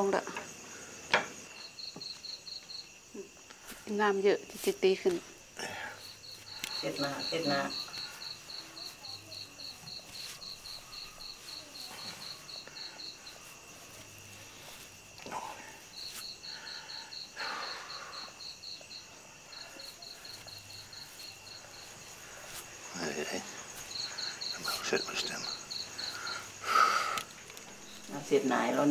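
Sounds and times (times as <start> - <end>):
high insect drone: 0.0 - 28.9
insects chirping: 0.0 - 28.9.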